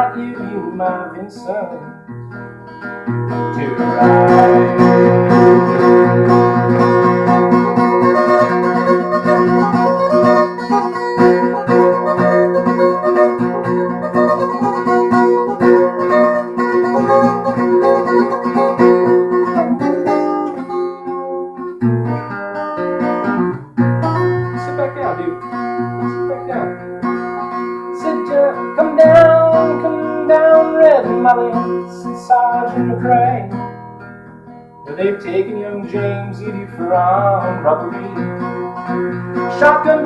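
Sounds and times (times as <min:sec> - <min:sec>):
acoustic guitar picking: 0:00.0 - 0:40.0.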